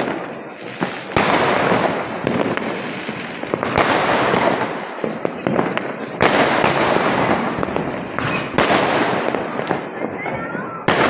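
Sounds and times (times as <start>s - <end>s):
firework bursts: 0.0s - 11.0s.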